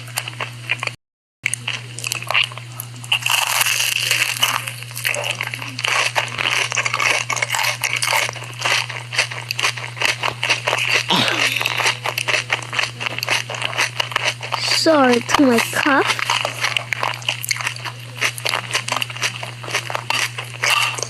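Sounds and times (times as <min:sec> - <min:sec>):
crunching and chewing: 0:00.0 - 0:21.0
steady low hum: 0:01.5 - 0:21.0.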